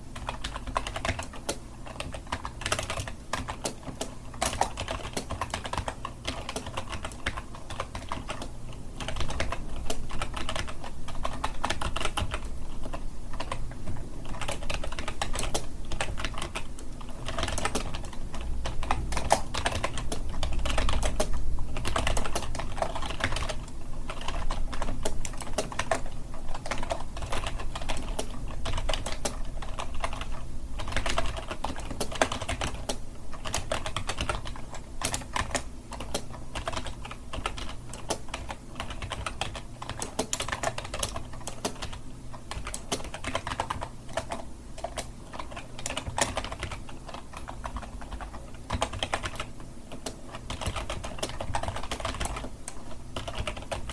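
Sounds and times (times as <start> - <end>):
keyboard typing: 0.0 - 53.9.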